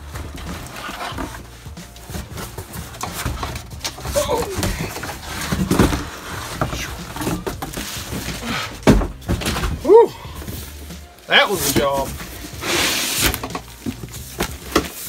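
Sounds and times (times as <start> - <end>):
cardboard boxes scraping and rustling: 0.0 - 15.0.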